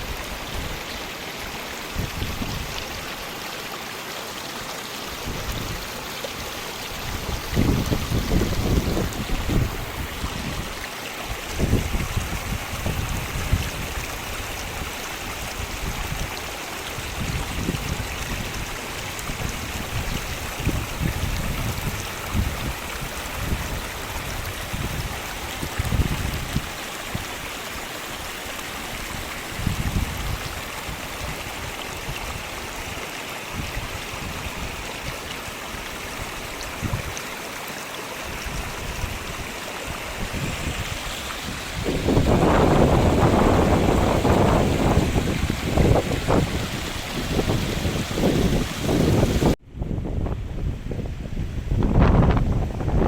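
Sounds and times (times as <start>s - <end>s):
wind buffeting microphone: 1.9s - 3.2s, 5.1s - 27.5s, 28.2s - 37.2s, 38.2s - 53.0s.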